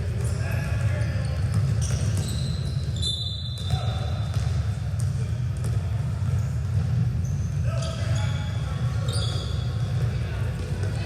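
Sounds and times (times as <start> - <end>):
ball bouncing on gym floor: 0.0 - 7.2, 9.3 - 11.0
sneaker squeaks: 0.2 - 11.0.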